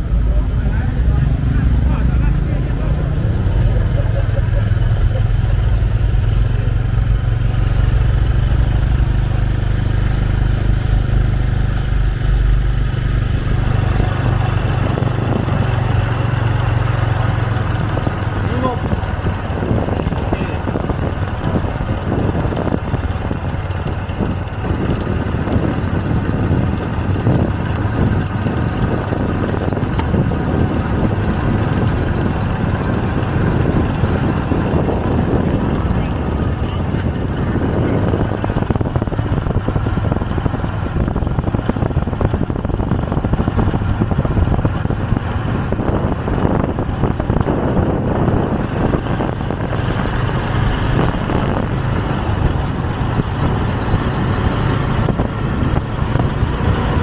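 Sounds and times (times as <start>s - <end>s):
motorbike engine rumble: 0.0s - 57.0s
road noise: 0.0s - 57.0s.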